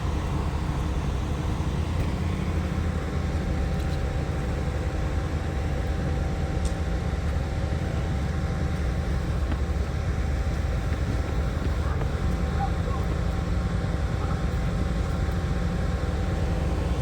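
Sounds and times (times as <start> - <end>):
faint constant hum: 0.0 - 17.0
vehicle engine idling: 0.0 - 17.0.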